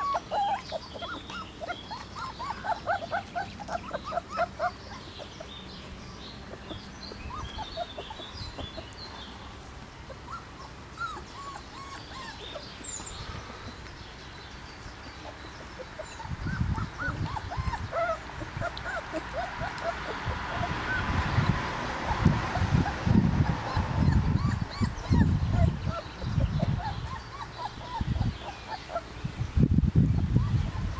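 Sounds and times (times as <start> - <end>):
puppies whimpering: 0.0 - 9.0, 10.0 - 13.8, 15.0 - 29.2, 30.1 - 30.9.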